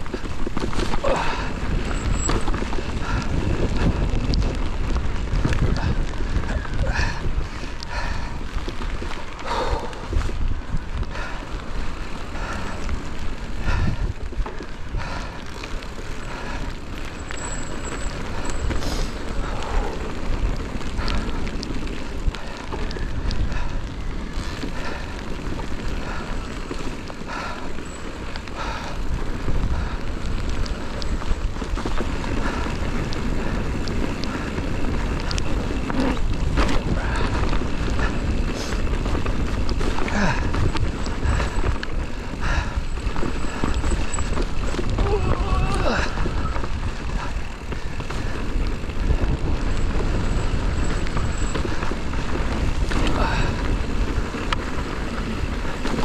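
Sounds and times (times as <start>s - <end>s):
bike rattling over bumps: 0.0s - 56.0s
tyre noise on trail: 0.0s - 56.0s
wind buffeting microphone: 0.0s - 56.0s.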